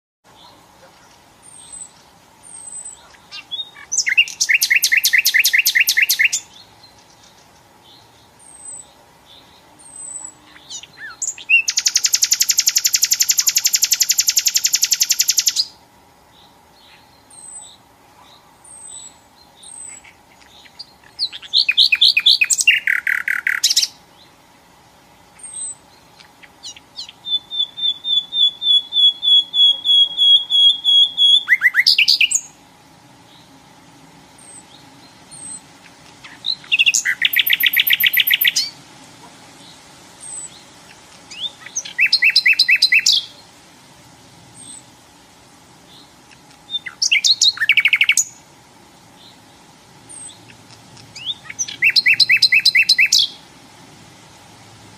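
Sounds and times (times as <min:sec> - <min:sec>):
nightingale singing: 0:00.3 - 0:24.5, 0:25.1 - 0:43.6, 0:44.5 - 0:53.6.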